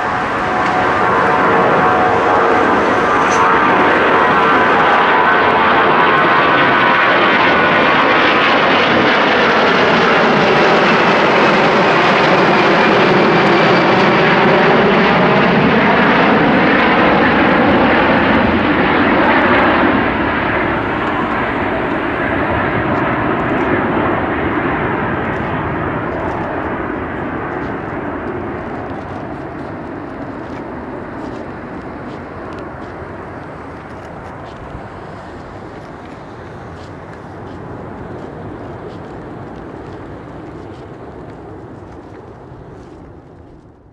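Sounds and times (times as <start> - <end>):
jet airliner climbing overhead: 0.0 - 43.9.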